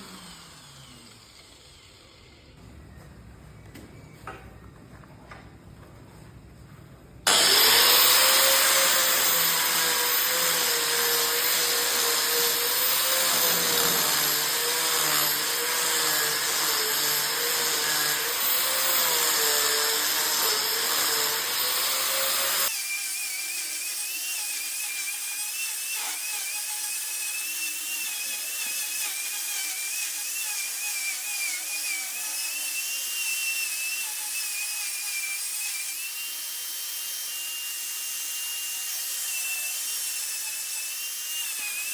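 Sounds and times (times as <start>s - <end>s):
rotary power tool whining: 0.0s - 2.6s, 7.3s - 41.9s.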